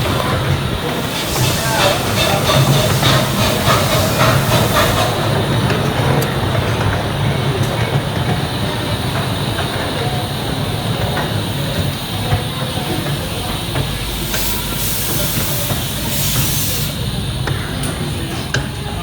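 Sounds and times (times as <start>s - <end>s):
train rumble with wheel clatter: 0.0s - 19.0s.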